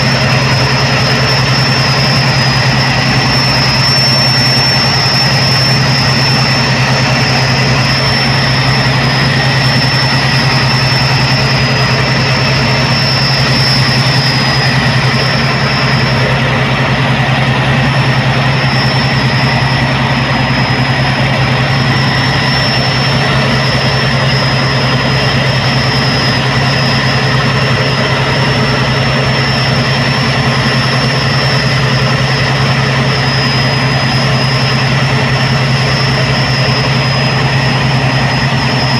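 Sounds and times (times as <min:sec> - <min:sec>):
diesel engines droning: 0:00.0 - 0:38.9
thin high whine: 0:00.0 - 0:38.9.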